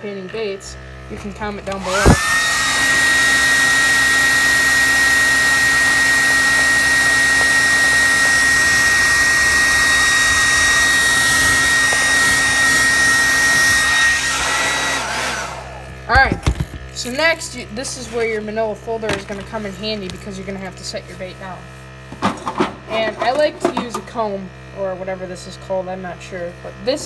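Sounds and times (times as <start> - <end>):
hot-air dryer whining: 0.8 - 17.0, 17.6 - 25.2.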